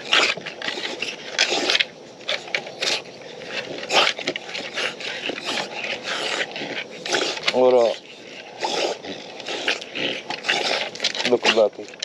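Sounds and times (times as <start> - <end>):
dog breathing and snuffling: 0.0 - 12.0.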